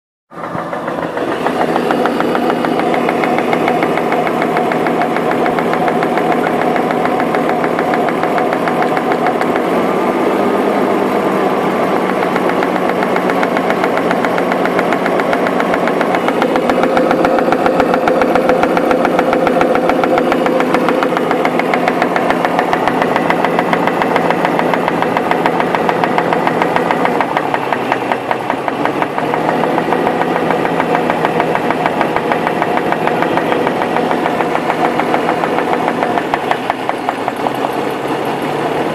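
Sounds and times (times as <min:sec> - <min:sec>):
fast regular engine knocking: 0:00.3 - 0:10.2, 0:11.2 - 0:38.9
car engine idling: 0:00.3 - 0:38.9.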